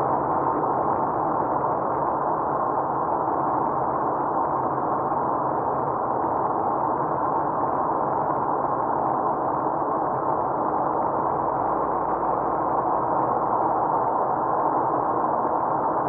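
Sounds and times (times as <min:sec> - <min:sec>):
car cabin road drone: 0:00.0 - 0:16.0.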